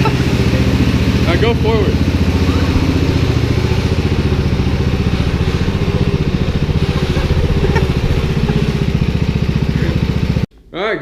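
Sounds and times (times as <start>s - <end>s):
lawn mower engine running: 0.0s - 10.5s.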